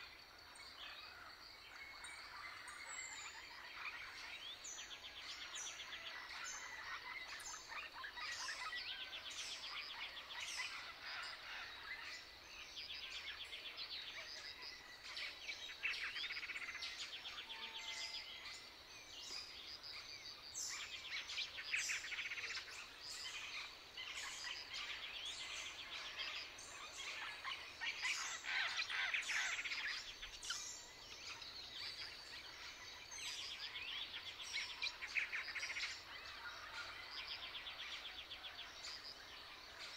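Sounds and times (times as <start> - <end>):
faint outdoor hiss: 0.0 - 39.9
songbirds chirping and singing: 0.0 - 39.9.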